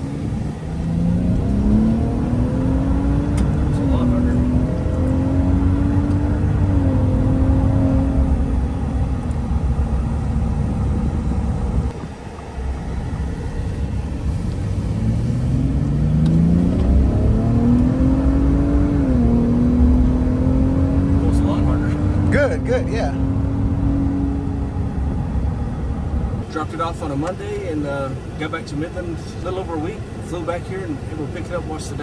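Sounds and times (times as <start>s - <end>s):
turbocharged engine droning: 0.0s - 32.0s.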